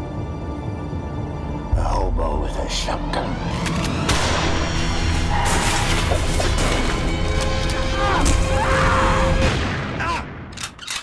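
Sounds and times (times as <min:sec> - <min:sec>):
dramatic trailer music: 0:00.0 - 0:10.8.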